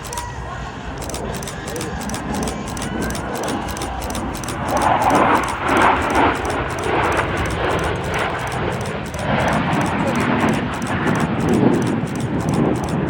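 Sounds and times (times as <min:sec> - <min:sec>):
aircraft engine rushing: 0:00.0 - 0:13.0.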